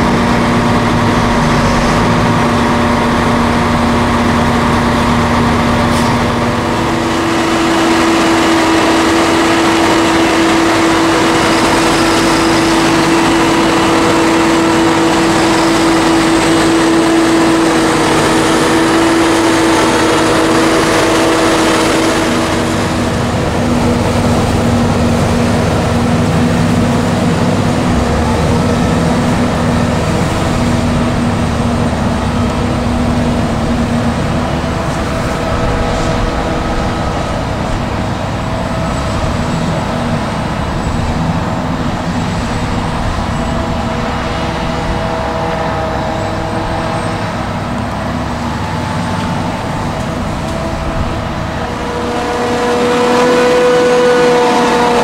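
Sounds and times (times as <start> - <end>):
heavy diesel farm machinery droning: 0.0 - 55.0.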